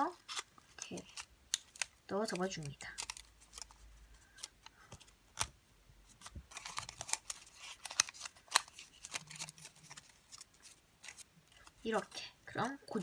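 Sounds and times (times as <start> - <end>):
paper crinkling and crackling: 0.0 - 13.0.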